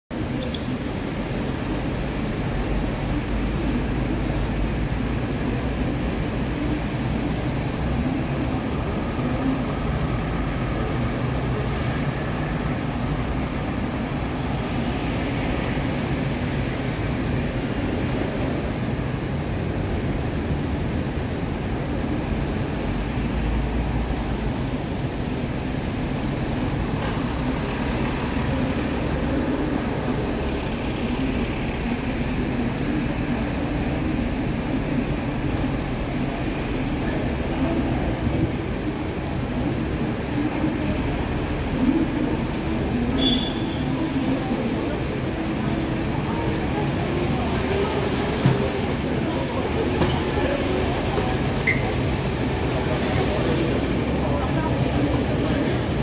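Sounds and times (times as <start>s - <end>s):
busy road traffic: 0.1s - 56.0s.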